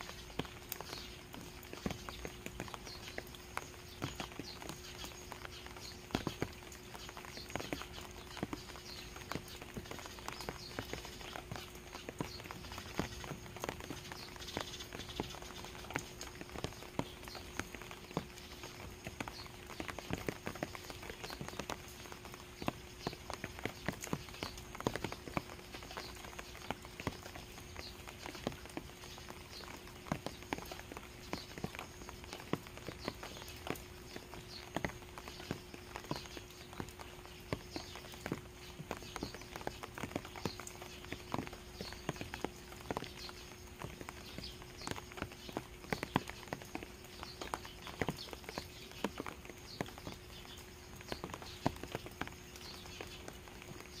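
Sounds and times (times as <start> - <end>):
rain drops dripping on ground: 0.0 - 54.0.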